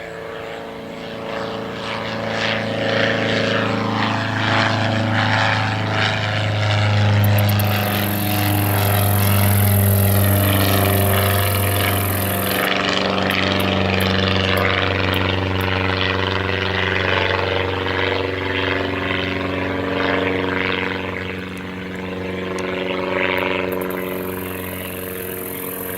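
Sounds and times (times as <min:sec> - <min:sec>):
airplane engine hum: 0:00.0 - 0:25.9
propeller rush: 0:00.0 - 0:25.9.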